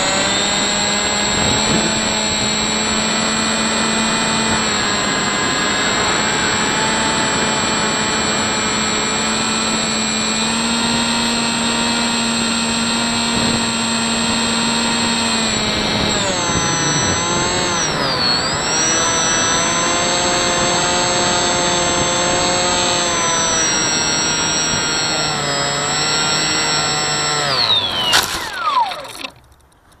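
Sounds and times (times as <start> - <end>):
electric motor and propeller whining: 0.0 - 29.8.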